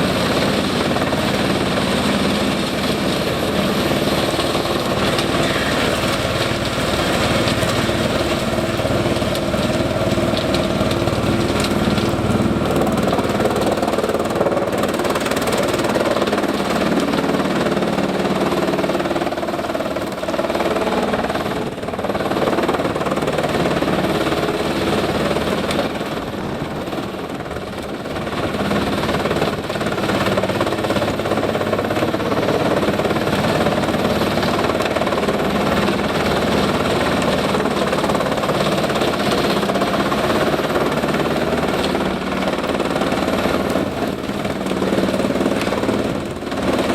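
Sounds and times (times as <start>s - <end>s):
wood chipper diesel engine: 0.0s - 46.9s.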